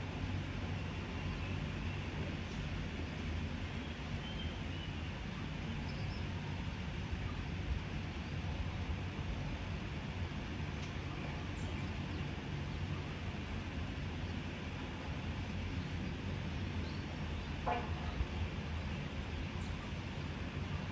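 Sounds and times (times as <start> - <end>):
low hum and hiss: 0.0 - 20.9.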